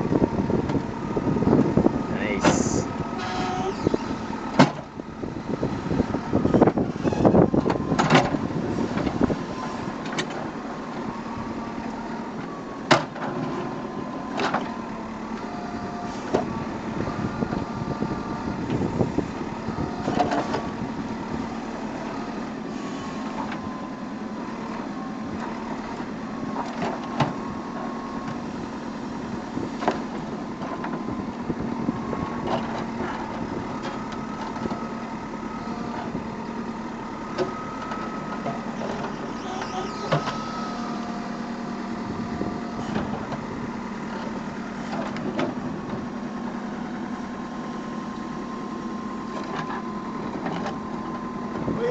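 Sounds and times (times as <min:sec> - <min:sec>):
hydraulic whine: 0:00.0 - 0:23.9, 0:31.0 - 0:51.9
diesel engine running: 0:00.0 - 0:51.9.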